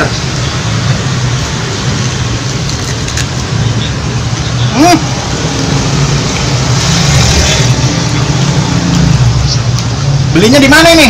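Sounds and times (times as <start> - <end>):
vehicle engine passing: 0.0 - 10.5.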